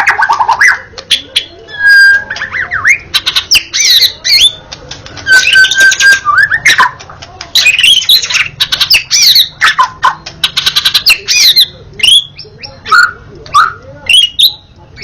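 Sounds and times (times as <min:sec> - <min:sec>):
bird singing varied song: 0:00.0 - 0:15.0.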